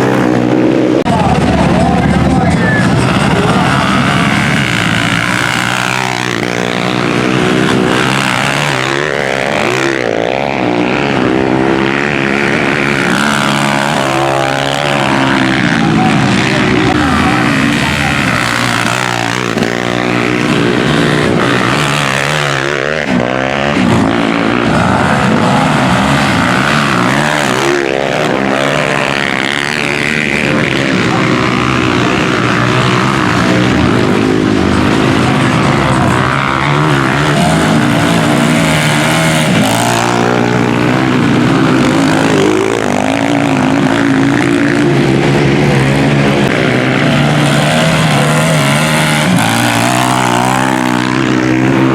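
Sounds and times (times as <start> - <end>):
motorcycles racing and revving: 0.0 - 51.9.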